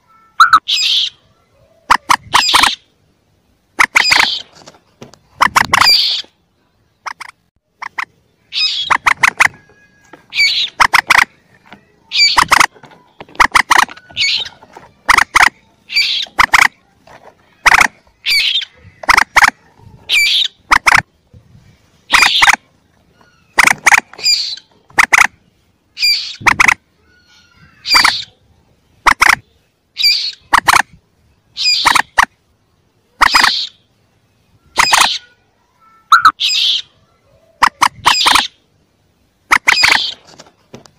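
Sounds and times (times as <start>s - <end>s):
moorhen clicking calls: 0.4s - 1.2s, 1.8s - 2.9s, 3.8s - 4.6s, 5.2s - 21.2s, 22.0s - 32.4s, 33.1s - 33.9s, 34.6s - 35.3s, 36.1s - 36.9s, 37.5s - 38.7s, 39.4s - 40.3s.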